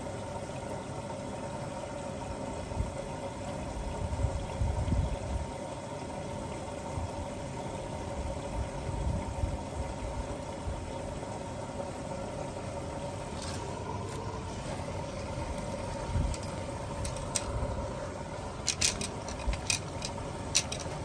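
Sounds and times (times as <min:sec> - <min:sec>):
washing machine motor hum: 0:00.0 - 0:21.0
water churning in drum: 0:00.0 - 0:21.0.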